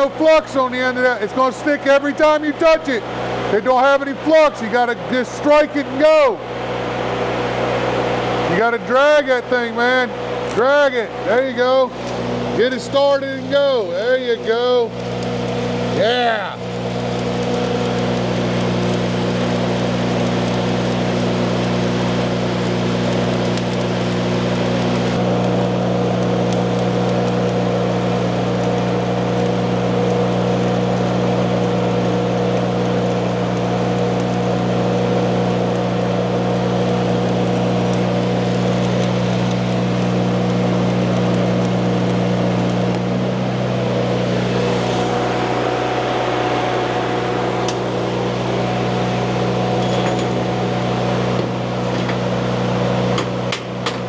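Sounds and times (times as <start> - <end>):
welding machine hum: 10.1 - 54.0
welding arc crackling: 10.3 - 53.8.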